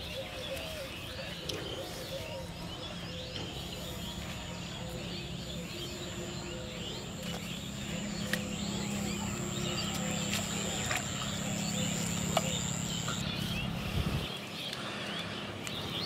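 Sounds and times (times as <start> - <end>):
low steady background noise: 0.0 - 16.0
small birds chirping: 0.0 - 16.0.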